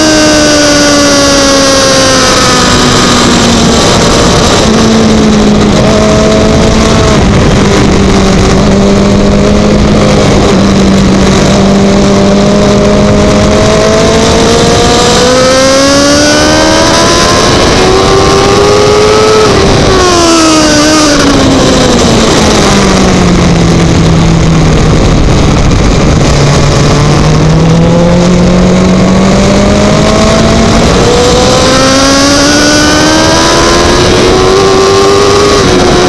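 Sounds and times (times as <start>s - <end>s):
motorcycle engine at speed: 0.0s - 36.0s
wind noise: 0.0s - 36.0s.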